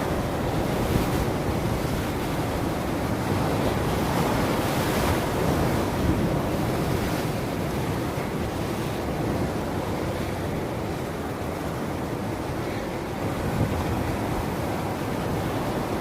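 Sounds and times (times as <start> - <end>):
waves breaking: 0.0 - 16.0
wind rumbling on microphone: 0.0 - 16.0.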